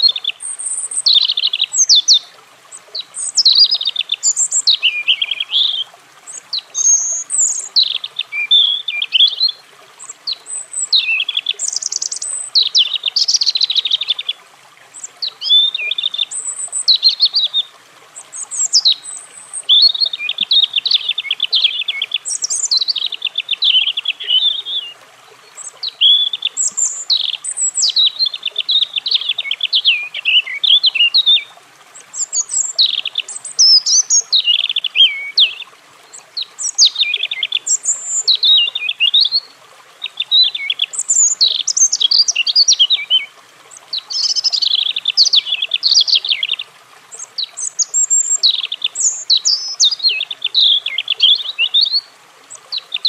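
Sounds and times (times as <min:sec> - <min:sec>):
robin singing: 0:00.0 - 0:53.0.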